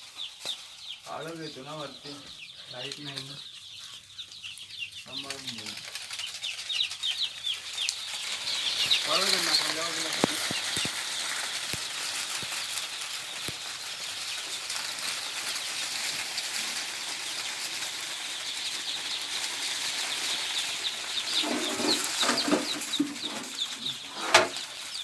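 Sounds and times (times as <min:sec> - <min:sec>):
chickens clucking: 0:00.0 - 0:25.0
chicks peeping: 0:00.0 - 0:25.0.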